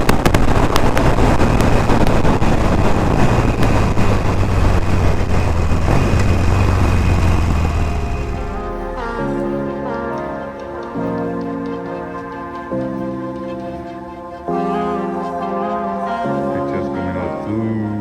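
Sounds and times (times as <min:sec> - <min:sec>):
road and rushing noise: 0:00.0 - 0:14.5
sharp cracks: 0:00.0 - 0:14.5
motorcycle engine cruising: 0:00.0 - 0:14.6.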